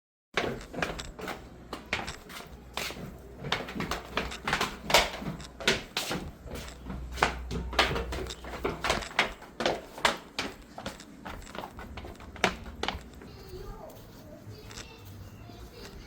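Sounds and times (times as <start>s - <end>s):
objects knocking and clunking: 0.4s - 13.4s.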